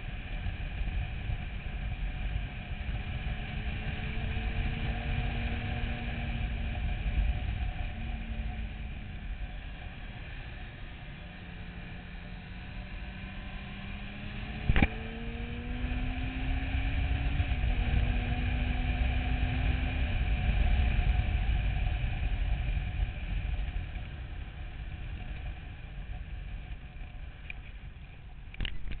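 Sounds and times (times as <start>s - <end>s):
motorcycle engine accelerating: 0.0s - 29.0s
wind rumble on microphone: 0.0s - 29.0s.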